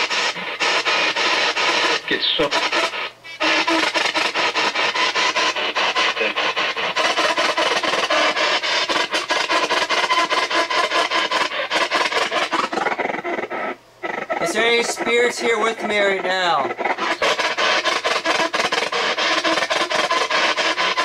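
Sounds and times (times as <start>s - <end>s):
spirit box radio static chopping: 0.0s - 21.0s.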